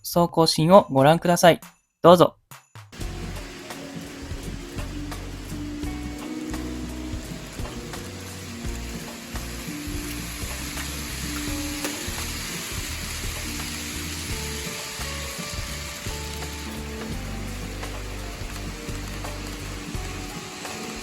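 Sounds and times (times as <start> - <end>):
background music: 2.2 - 21.0
model trains hissing on track: 3.0 - 21.0.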